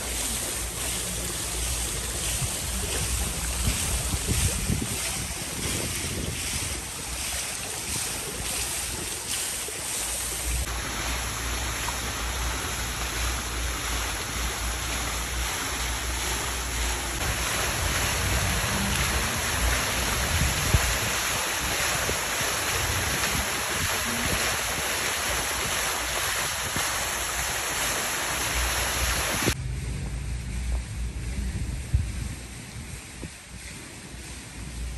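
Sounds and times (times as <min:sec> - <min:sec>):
wind rumbling on microphone: 0:00.0 - 0:09.4, 0:10.1 - 0:34.9
fountain water splashing: 0:00.0 - 0:34.9.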